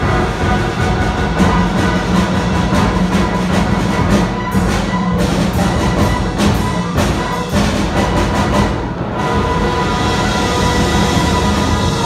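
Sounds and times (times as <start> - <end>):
drum and percussion beat: 0.0 - 12.0
wind and brass chords: 0.0 - 12.0.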